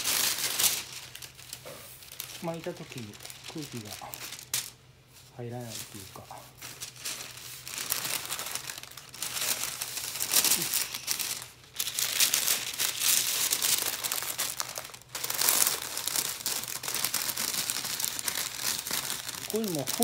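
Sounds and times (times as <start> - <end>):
paper crinkling and rustling: 0.0 - 20.0.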